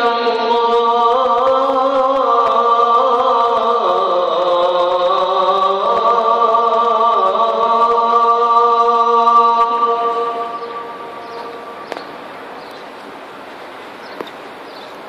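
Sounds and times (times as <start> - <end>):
person singing call to prayer: 0.0 - 12.2.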